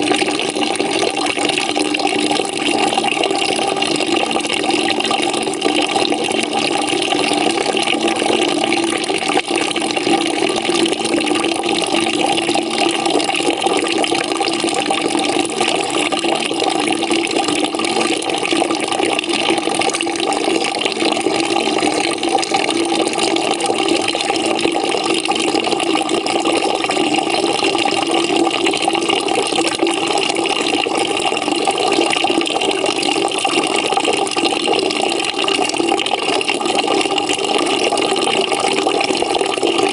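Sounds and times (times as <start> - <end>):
water pouring into bucket: 0.0 - 39.9.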